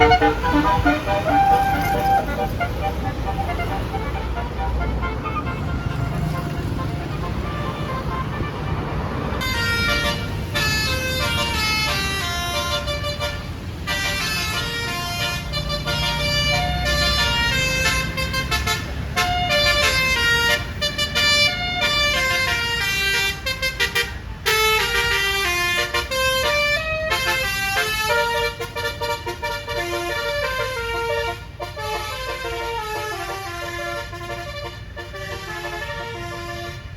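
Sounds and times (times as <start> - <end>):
air horns playing a tune: 0.0 - 36.9
low engine rumble: 0.0 - 36.9.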